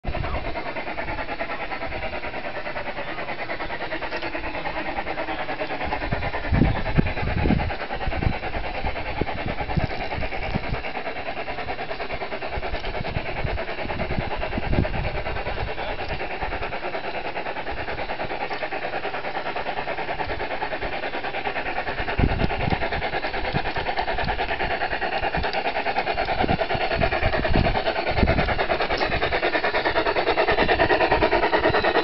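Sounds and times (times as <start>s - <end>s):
model steam locomotive chuffing: 0.0s - 32.0s.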